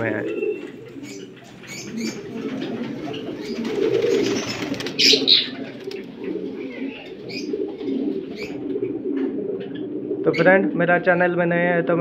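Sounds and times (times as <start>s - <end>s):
pigeon cooing: 0.0s - 12.0s.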